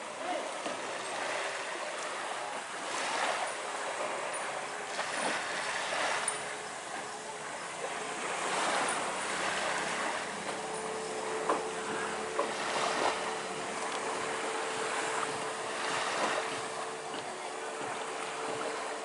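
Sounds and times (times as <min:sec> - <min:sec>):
small waves lapping on shore: 0:00.0 - 0:19.0.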